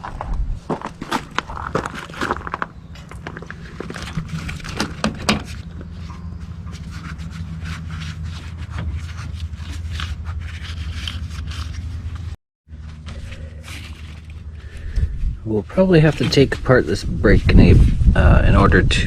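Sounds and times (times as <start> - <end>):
low hum: 0.0 - 18.2
scraping and rubbing: 0.0 - 18.6.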